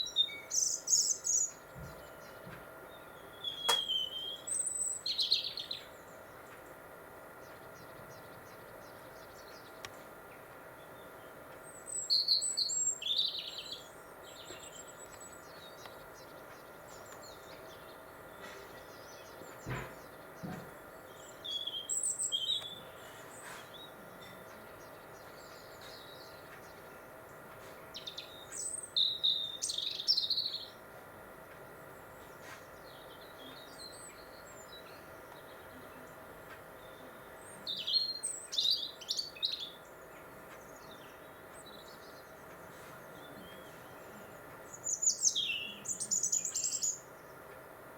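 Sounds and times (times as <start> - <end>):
robin singing: 0.0 - 47.9.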